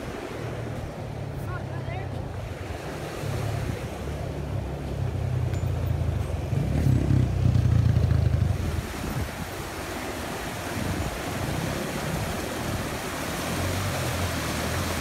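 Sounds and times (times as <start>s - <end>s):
water rushing in a canal: 0.0s - 15.0s
wind buffeting microphone: 2.0s - 15.0s.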